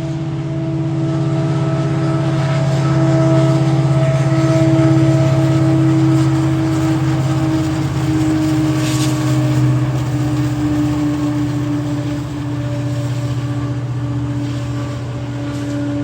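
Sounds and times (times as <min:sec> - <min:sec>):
locomotive engine humming: 0:00.0 - 0:16.0.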